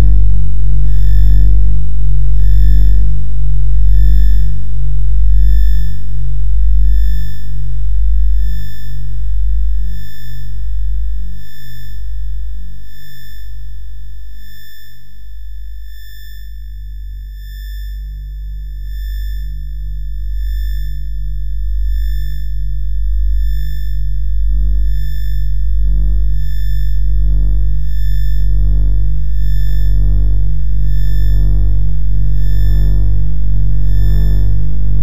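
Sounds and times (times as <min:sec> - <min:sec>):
deep bass drone: 0:00.0 - 0:13.6, 0:15.8 - 0:35.0
high sine tones: 0:00.0 - 0:35.0.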